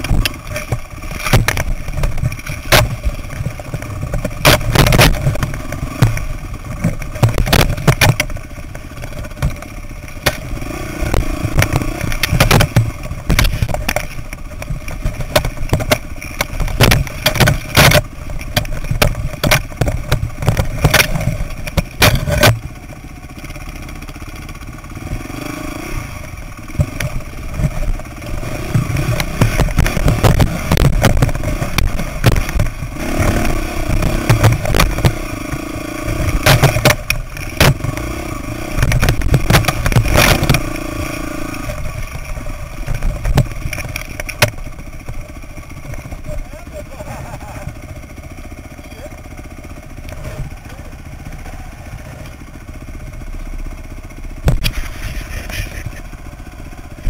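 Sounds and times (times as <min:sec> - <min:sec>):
knocks and rattles over rocks: 0:00.0 - 0:56.1
dirt bike engine running: 0:00.0 - 0:57.0.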